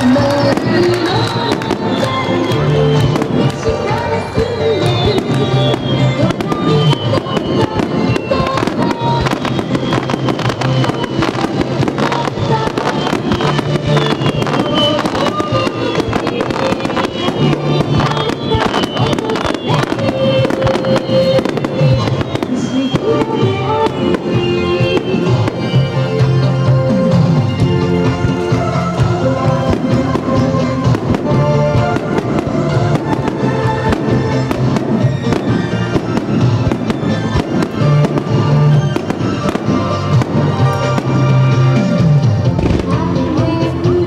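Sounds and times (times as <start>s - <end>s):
fireworks bangs and crackling: 0.0s - 44.0s
music: 0.0s - 44.0s.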